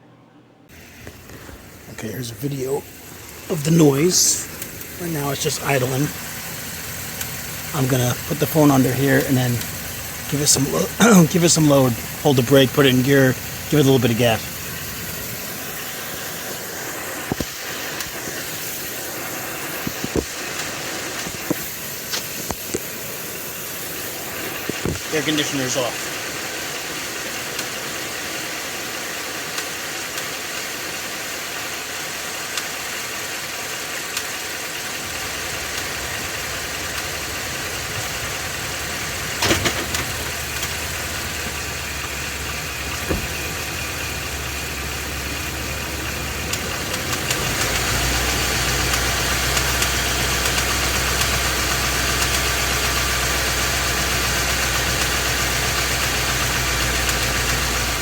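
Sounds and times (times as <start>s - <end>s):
truck engine knocking: 1.1s - 58.0s.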